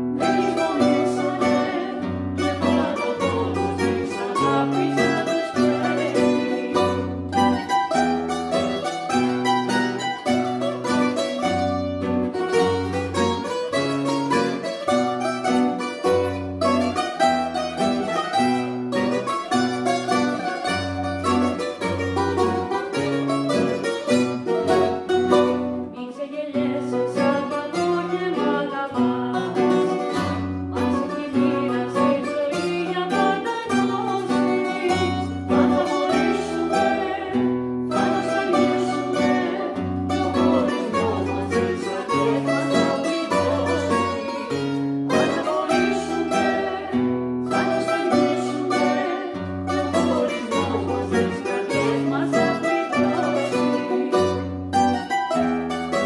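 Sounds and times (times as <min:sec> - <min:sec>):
bouzoukis plucking: 0:00.0 - 0:56.0
strummed acoustic guitar: 0:00.0 - 0:56.0.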